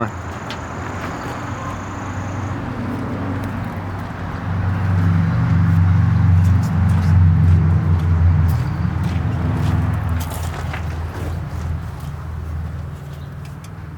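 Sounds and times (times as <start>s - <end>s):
car engine running: 0.0s - 11.7s.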